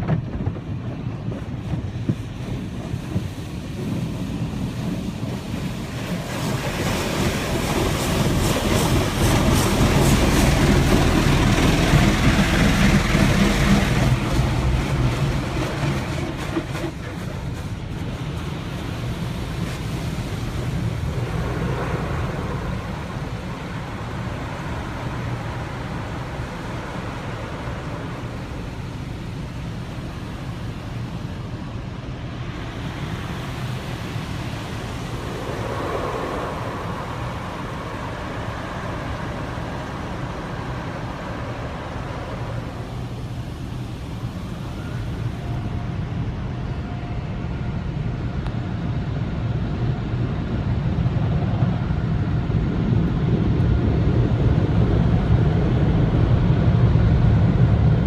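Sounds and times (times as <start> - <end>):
car wash machinery rumble: 0.0 - 58.0.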